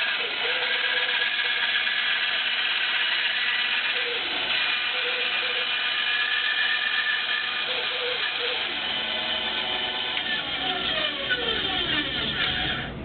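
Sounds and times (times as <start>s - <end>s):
electric saw cutting board: 0.0s - 13.0s.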